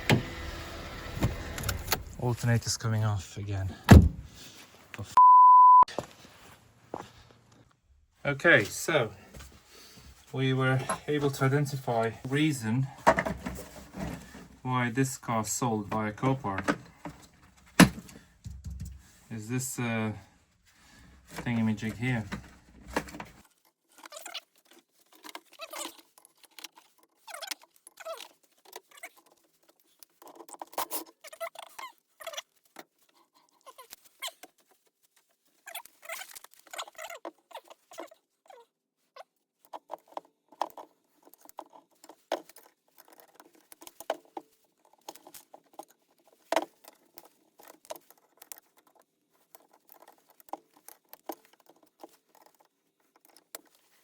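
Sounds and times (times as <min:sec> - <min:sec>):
hands and tools handling noise: 0:08.6 - 0:54.0.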